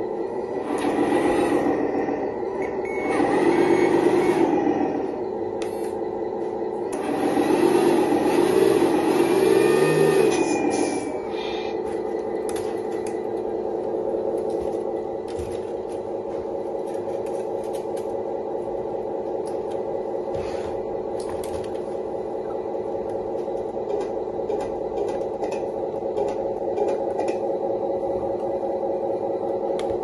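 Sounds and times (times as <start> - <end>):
simulated truck engine idling: 0.0 - 30.0.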